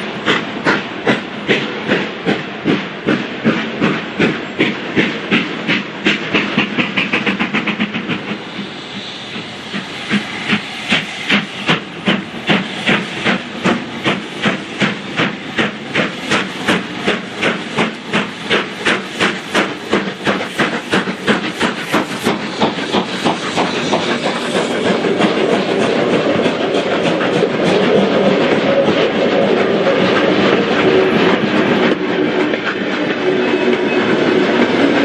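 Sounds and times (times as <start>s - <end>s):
steam hissing: 0.0s - 35.0s
steam locomotive chuffing: 0.0s - 35.0s
train rushing past: 0.0s - 35.0s.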